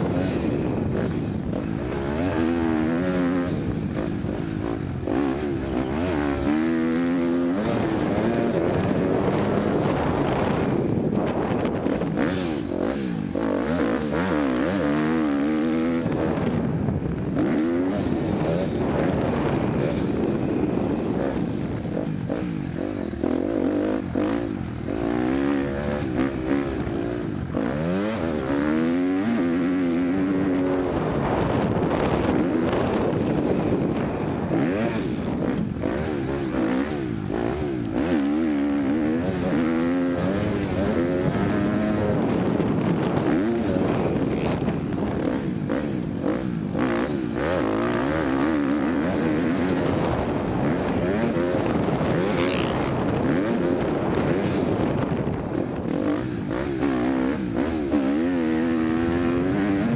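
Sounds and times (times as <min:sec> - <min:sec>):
vehicle engines revving: 0:00.0 - 0:59.9.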